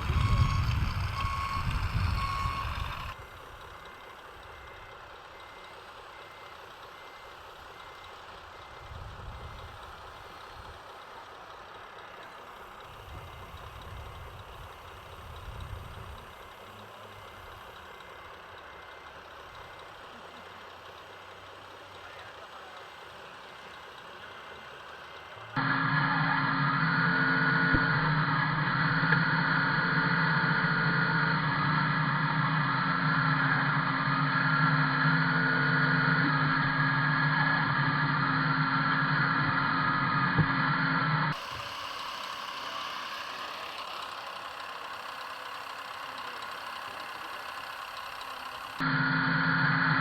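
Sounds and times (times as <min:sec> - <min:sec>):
faint reversing beeps: 0:00.0 - 0:50.0
low rumbles of model truck: 0:00.0 - 0:50.0.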